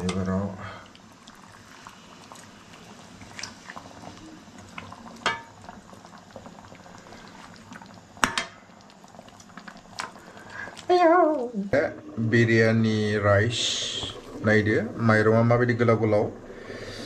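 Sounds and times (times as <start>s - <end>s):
liquid simmering in a pot: 0.0s - 17.0s.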